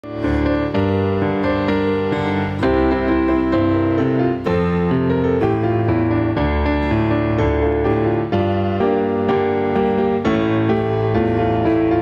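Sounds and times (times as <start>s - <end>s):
piano keyboard playing: 0.0s - 12.0s.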